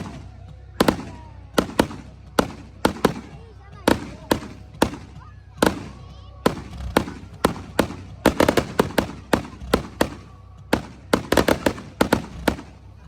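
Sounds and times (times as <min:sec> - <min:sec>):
fireworks cracks and bangs: 0:00.0 - 0:13.0.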